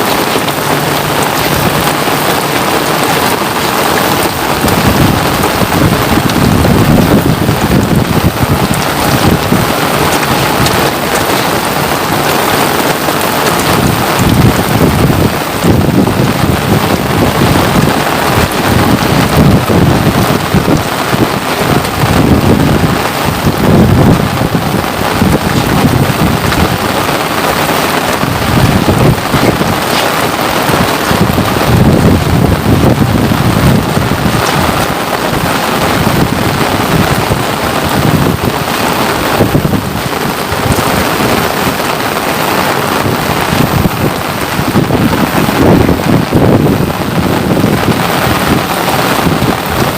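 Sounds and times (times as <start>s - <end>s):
rain falling steadily: 0.0s - 49.9s.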